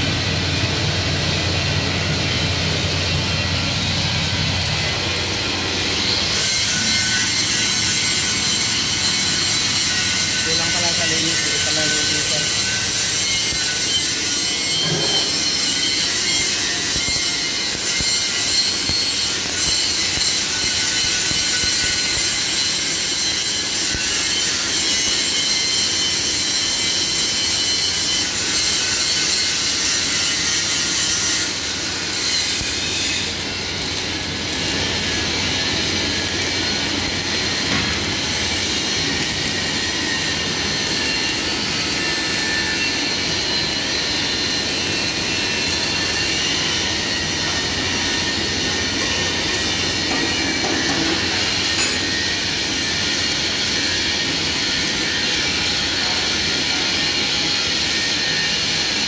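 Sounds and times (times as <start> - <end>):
arc welding crackling and hissing: 0.0 - 59.0.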